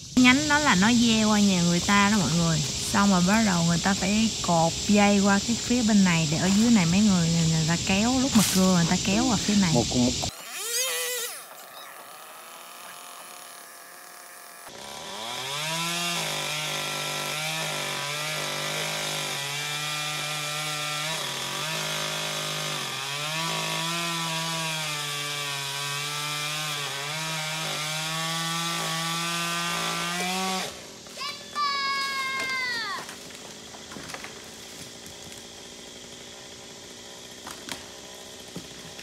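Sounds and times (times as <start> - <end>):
chainsaw cutting wood: 0.2 - 39.0.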